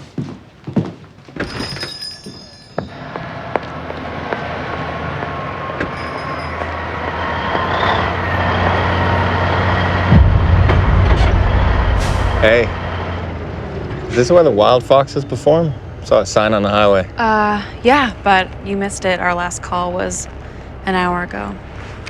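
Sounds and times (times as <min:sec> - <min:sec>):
truck engine rumbling: 0:02.9 - 0:22.0.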